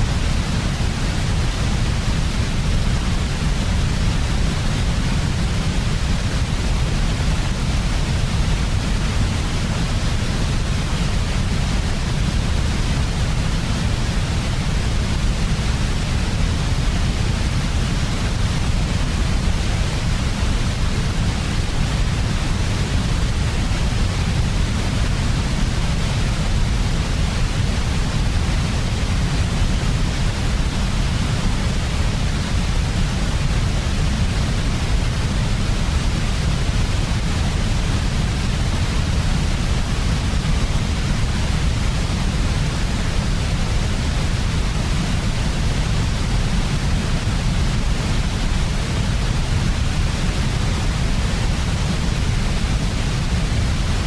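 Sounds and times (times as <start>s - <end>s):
white noise rumble and hiss: 0.0s - 54.0s.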